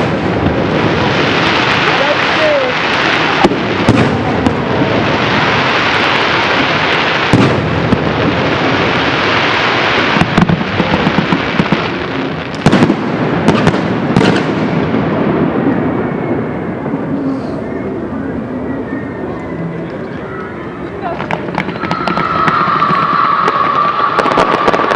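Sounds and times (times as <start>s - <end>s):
fireworks sharp bangs: 0.0s - 17.6s, 21.0s - 24.9s
fireworks crackling: 0.0s - 24.9s.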